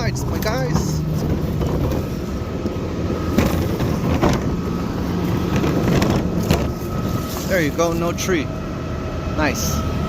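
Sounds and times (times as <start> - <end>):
faint steady whine: 0.0 - 10.0
garbage truck engine running: 0.0 - 10.0.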